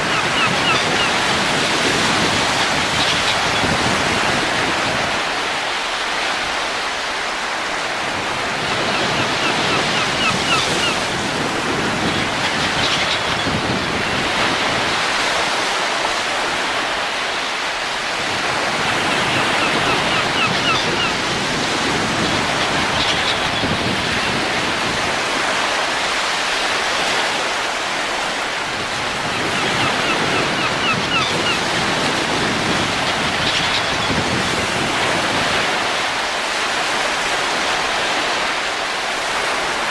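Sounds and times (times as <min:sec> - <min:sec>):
wind rushing and gusting: 0:00.0 - 0:39.9.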